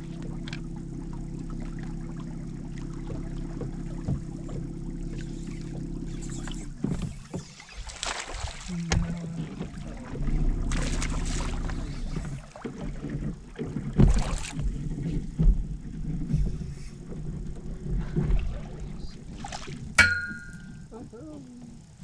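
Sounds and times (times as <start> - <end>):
boat motor humming: 0.0 - 22.0
wind: 0.0 - 22.0
knocks and thumps on boat: 0.1 - 20.8.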